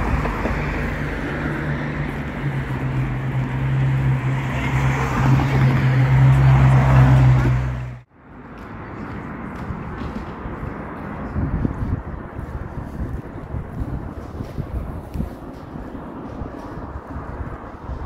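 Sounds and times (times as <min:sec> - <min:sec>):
low engine hum of traffic: 0:00.0 - 0:18.0.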